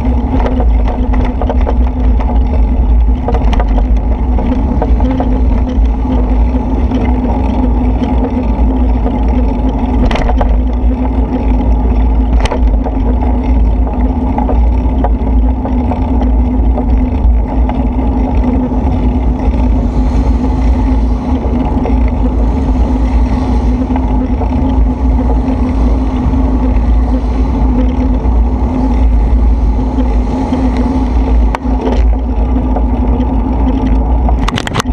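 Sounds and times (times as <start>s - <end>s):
constant hum: 0.0s - 34.9s
wind buffeting microphone: 0.0s - 34.9s.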